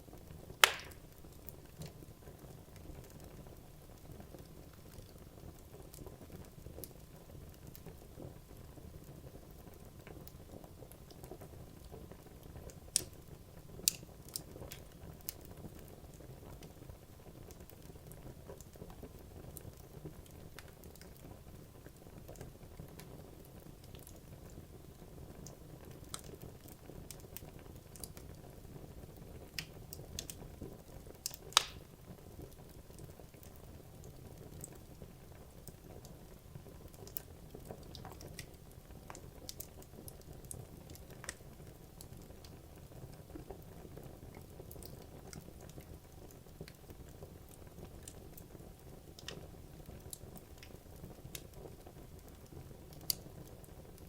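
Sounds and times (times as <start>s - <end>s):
logs burning in fireplace: 0.0s - 54.0s.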